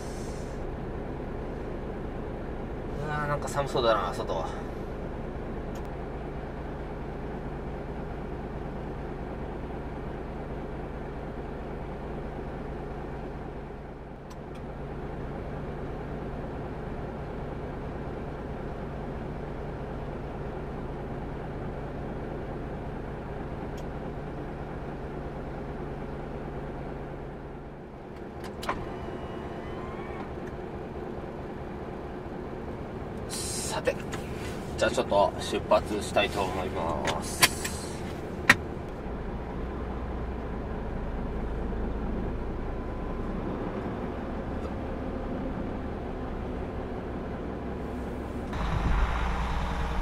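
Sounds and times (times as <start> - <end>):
truck diesel engine idling: 0.0 - 50.0.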